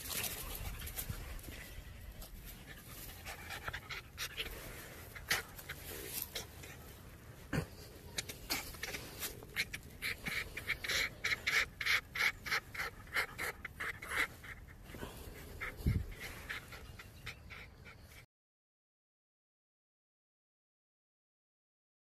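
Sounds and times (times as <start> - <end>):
fox huffing breaths: 0.0 - 18.3.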